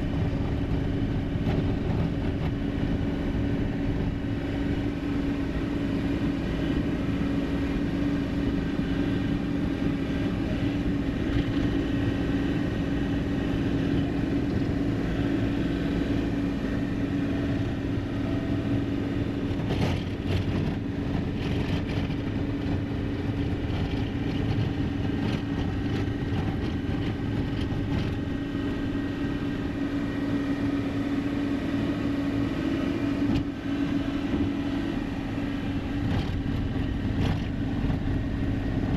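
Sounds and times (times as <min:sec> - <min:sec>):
road noise: 0:00.0 - 0:38.9
truck diesel engine droning: 0:00.0 - 0:38.9.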